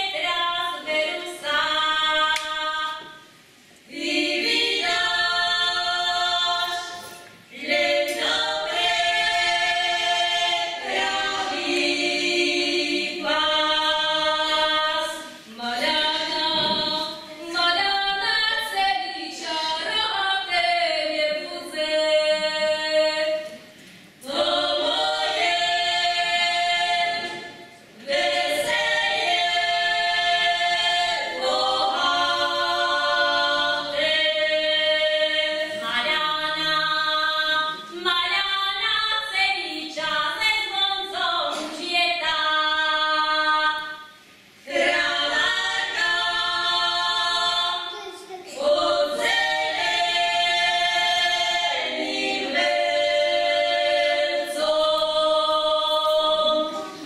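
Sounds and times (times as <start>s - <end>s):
women singing unaccompanied: 0.0s - 3.2s, 3.9s - 23.6s, 24.2s - 47.9s, 48.5s - 57.0s.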